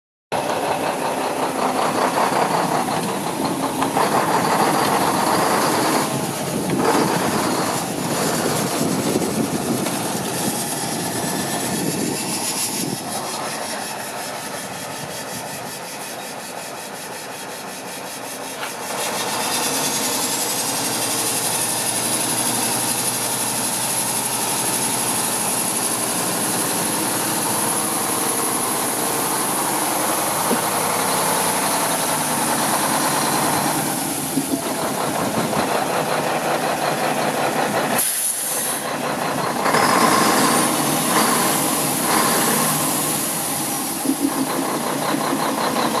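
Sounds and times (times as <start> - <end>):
diesel truck engine running: 0.3 - 46.0
high engine whine: 0.3 - 46.0.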